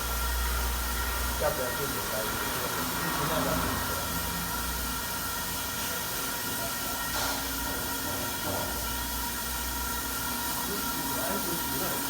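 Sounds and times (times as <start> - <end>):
machine hiss and rumble: 0.0 - 12.0.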